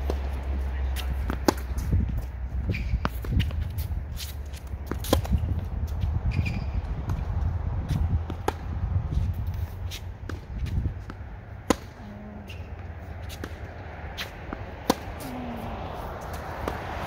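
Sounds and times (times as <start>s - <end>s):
tennis balls struck with rackets: 0.0s - 5.7s, 6.3s - 17.0s.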